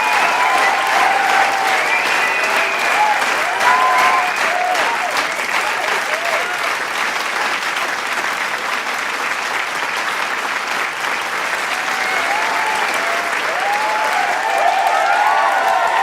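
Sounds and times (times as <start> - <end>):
crowd applauding: 0.0 - 16.0
crowd cheering: 0.0 - 16.0.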